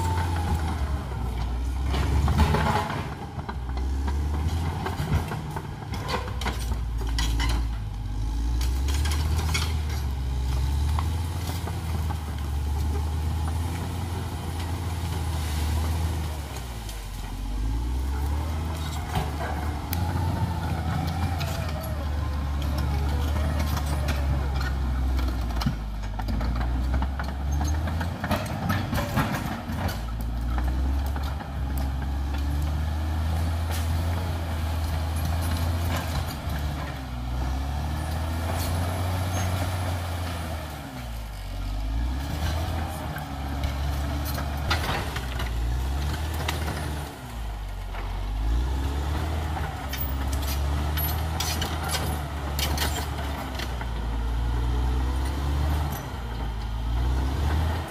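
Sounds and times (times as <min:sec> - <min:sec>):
bulldozer diesel engine under load: 0:00.0 - 0:57.9.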